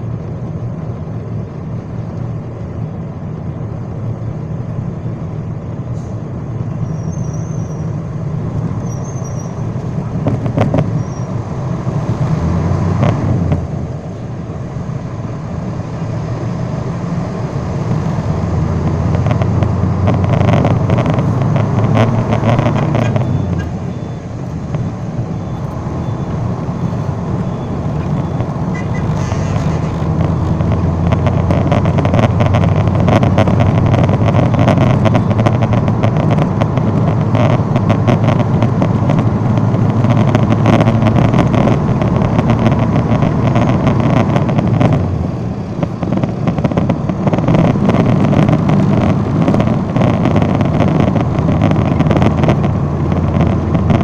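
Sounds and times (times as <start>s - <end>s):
road traffic rumble: 0.0s - 54.0s
vehicles passing close by: 0.0s - 54.0s.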